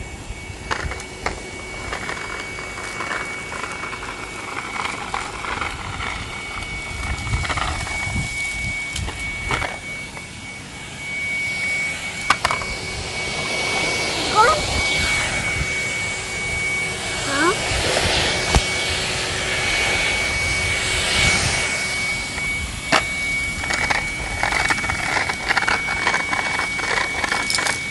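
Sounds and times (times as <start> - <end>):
vacuum cleaner whine: 0.0 - 27.9.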